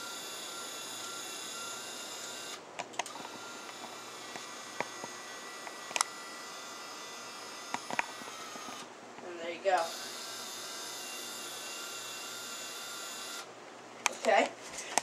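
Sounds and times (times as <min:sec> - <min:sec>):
small electric motor whining: 0:00.0 - 0:08.9, 0:09.7 - 0:13.5.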